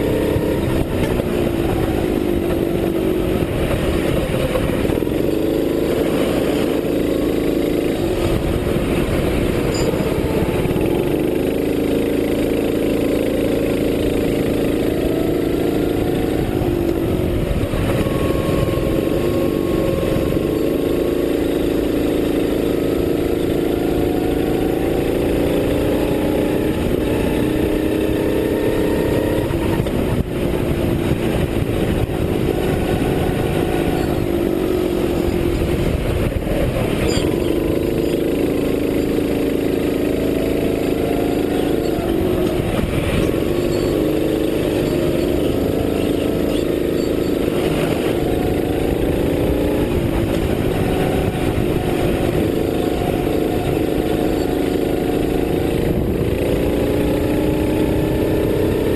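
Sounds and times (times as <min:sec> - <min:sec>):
racing kart engine: 0:00.0 - 0:58.9.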